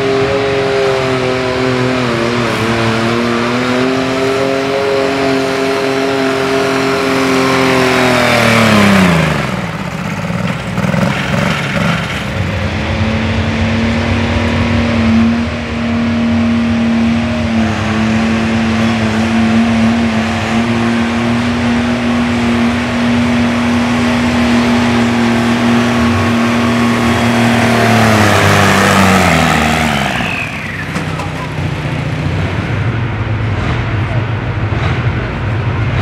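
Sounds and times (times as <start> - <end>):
diesel tractor engine under load: 0.0 - 36.0.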